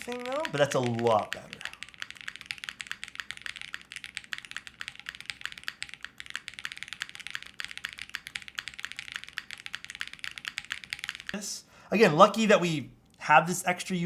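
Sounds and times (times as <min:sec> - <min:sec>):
mechanical keyboard typing: 0:00.0 - 0:11.5.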